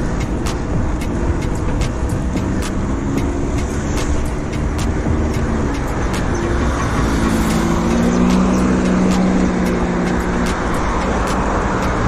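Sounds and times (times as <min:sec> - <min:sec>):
approaching vehicle engine hum: 0:00.0 - 0:12.0
road traffic: 0:00.0 - 0:12.0.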